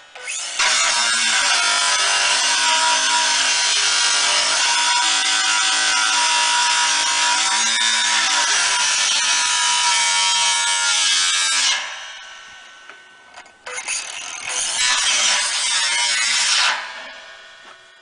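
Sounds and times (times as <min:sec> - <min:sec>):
angle grinder cutting steel: 0:00.1 - 0:12.9, 0:13.6 - 0:17.7.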